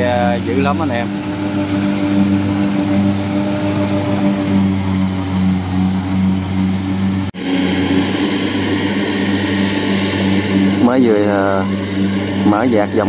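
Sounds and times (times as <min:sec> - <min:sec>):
combine harvester engine droning: 0:00.0 - 0:13.0.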